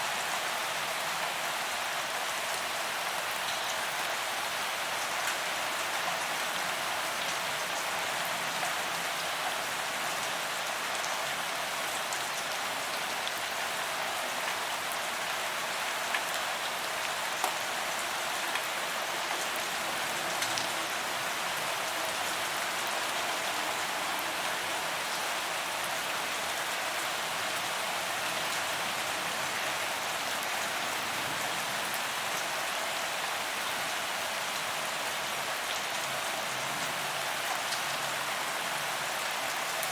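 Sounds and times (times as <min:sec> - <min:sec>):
steady rain on pavement: 0:00.0 - 0:39.9.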